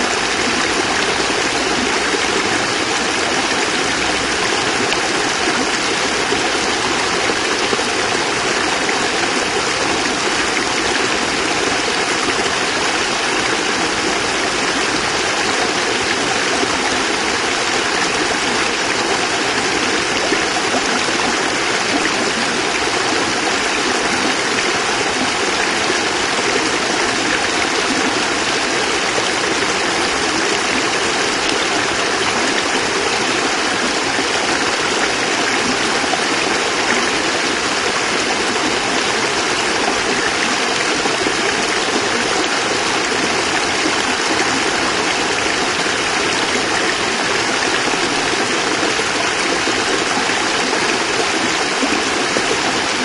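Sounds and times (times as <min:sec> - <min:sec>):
small water cascade splashing: 0:00.0 - 0:53.0.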